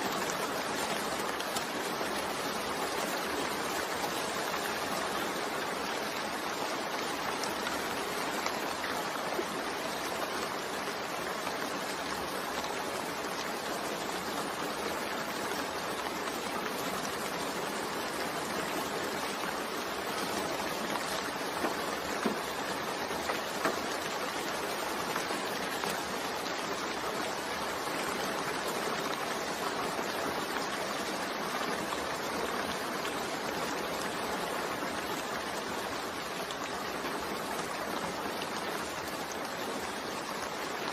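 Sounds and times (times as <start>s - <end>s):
gentle rain: 0.0s - 40.9s
louder raindrops: 0.0s - 40.9s.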